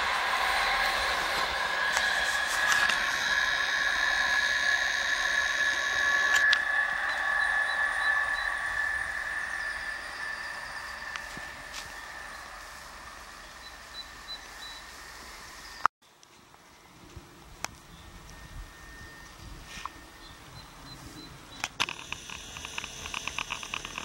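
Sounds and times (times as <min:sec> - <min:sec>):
electric train whine and rolling: 0:00.0 - 0:24.0.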